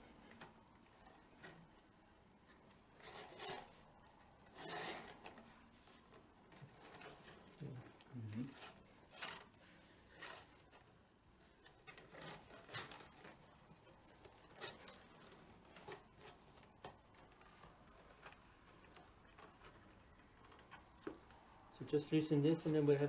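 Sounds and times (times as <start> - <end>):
strap rustling and rubbing on drum: 0.0 - 23.0.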